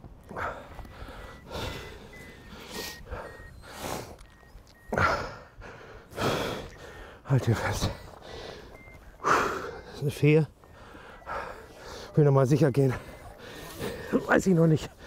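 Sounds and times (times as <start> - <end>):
person breathing heavily: 0.2 - 4.2, 4.8 - 12.3, 12.9 - 14.3.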